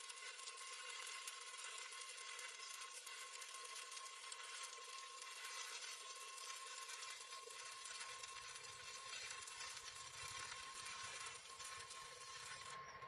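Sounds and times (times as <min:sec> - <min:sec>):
thin steady tone: 0:00.0 - 0:13.0
welding arc crackling: 0:00.0 - 0:13.0.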